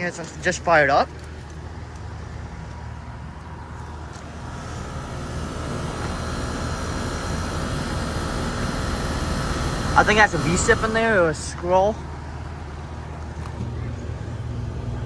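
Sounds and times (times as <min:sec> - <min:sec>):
compressor hum: 0:00.0 - 0:15.0
condenser fan rushing air: 0:00.0 - 0:15.0.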